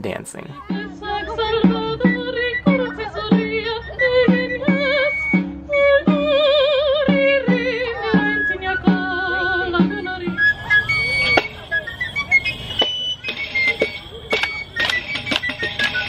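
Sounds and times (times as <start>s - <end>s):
folk dance music: 0.0s - 16.0s.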